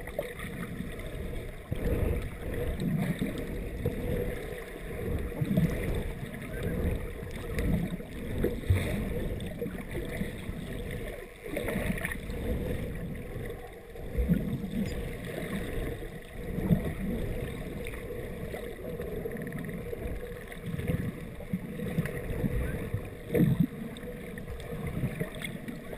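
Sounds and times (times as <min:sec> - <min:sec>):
muffled underwater rumble: 0:00.0 - 0:25.9
water sloshing: 0:00.0 - 0:25.9.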